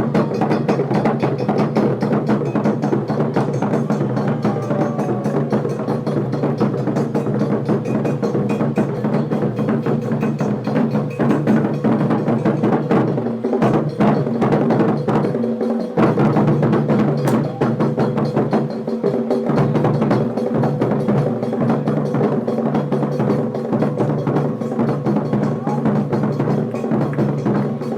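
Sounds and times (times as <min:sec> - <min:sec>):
drums: 0:00.0 - 0:27.9.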